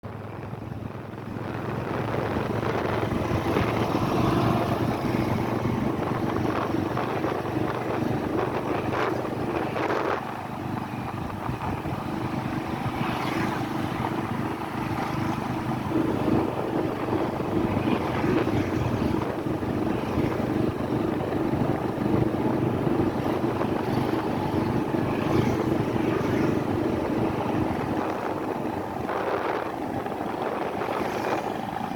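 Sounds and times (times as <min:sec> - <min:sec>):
motorbike engine running: 0:00.1 - 0:31.9.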